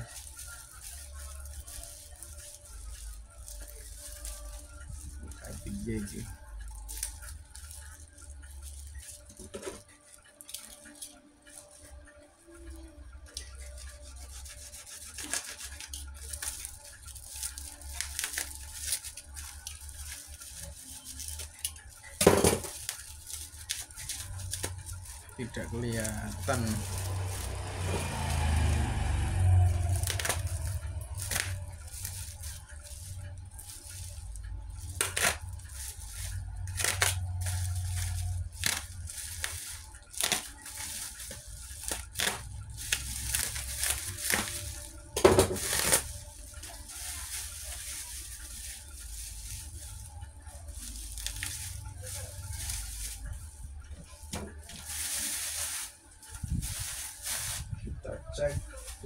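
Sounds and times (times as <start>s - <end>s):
plastic crinkling and tearing: 0.0s - 59.0s.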